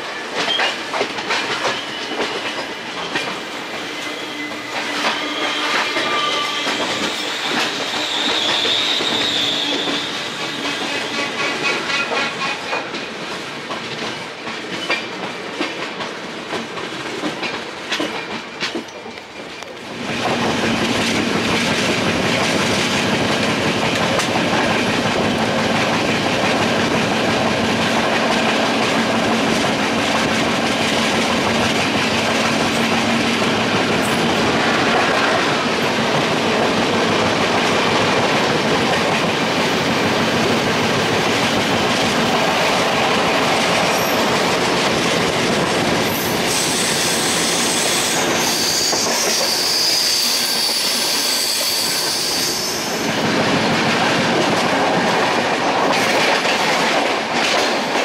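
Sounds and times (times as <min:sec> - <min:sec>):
train wheels clattering over rail joints: 0:00.0 - 0:49.6, 0:53.2 - 0:58.0
passing train: 0:00.0 - 0:58.0
train rushing at speed: 0:00.0 - 0:58.0.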